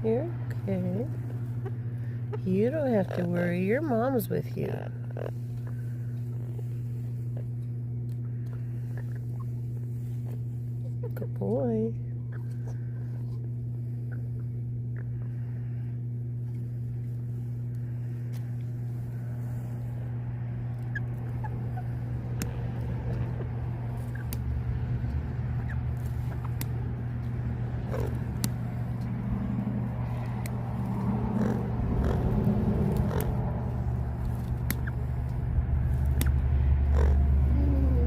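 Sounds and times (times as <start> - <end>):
low electric machine hum: 0.0 - 38.0.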